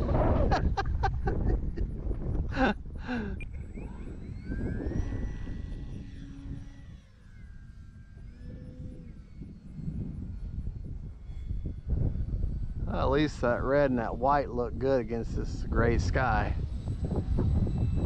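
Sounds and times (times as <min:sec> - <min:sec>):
low wind rumble on microphone: 0:00.0 - 0:18.0
model plane electric motor whining: 0:00.0 - 0:18.0.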